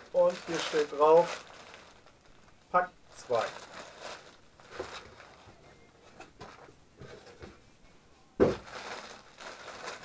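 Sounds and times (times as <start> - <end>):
plastic bag rustling: 0.0 - 6.6, 8.4 - 10.0.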